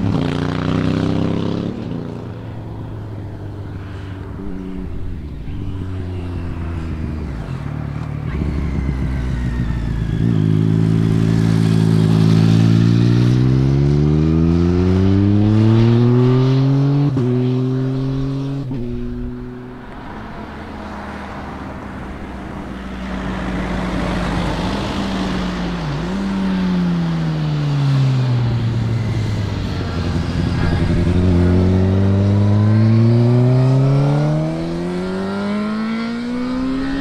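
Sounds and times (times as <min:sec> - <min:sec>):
passing traffic noise: 0:00.0 - 0:37.0
motorcycle engine accelerating: 0:04.3 - 0:20.6, 0:23.3 - 0:37.0.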